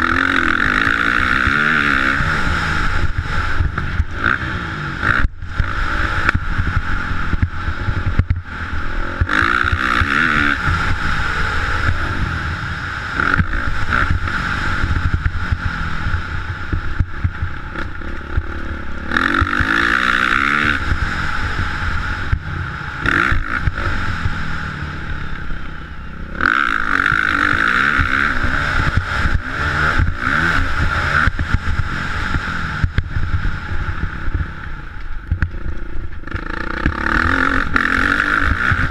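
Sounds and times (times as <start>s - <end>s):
background roar: 0.0s - 38.9s
motorcycle engines revving: 0.0s - 38.9s.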